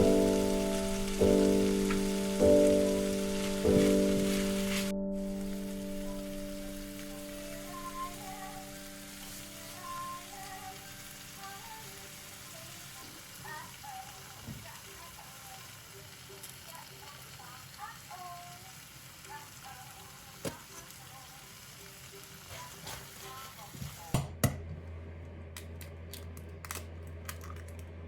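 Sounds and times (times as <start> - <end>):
food sizzling in a frying pan: 0.0 - 24.2.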